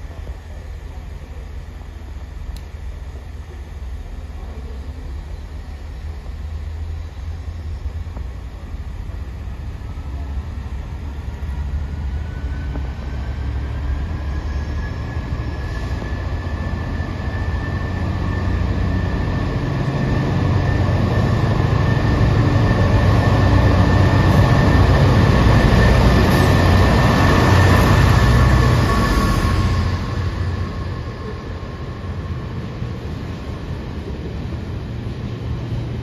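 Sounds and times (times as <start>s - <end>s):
diesel locomotive engine rumble: 0.0s - 36.0s.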